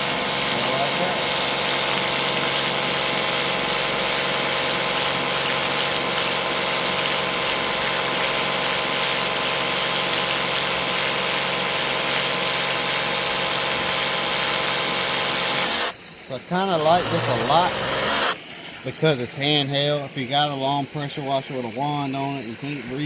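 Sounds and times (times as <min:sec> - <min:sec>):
pressure washer pump whine: 0:00.0 - 0:23.0
water spraying hiss: 0:00.0 - 0:23.0.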